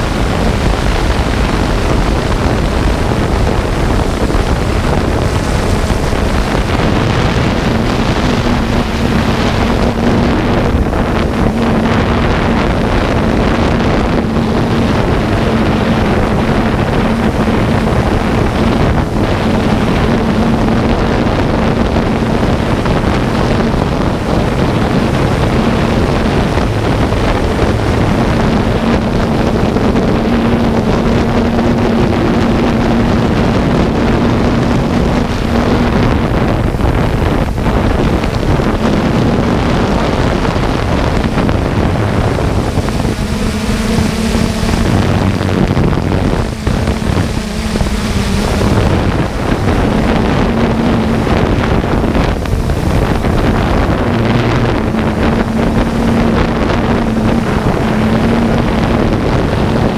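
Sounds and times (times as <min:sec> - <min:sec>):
drone propellers and motors: 0:00.0 - 0:59.9
low hum: 0:00.0 - 0:59.9
wind buffeting microphone: 0:00.0 - 0:59.9.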